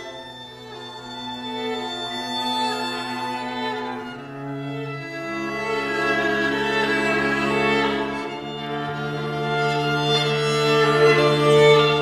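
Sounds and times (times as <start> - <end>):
string quartet sustained chords: 0.0 - 12.0.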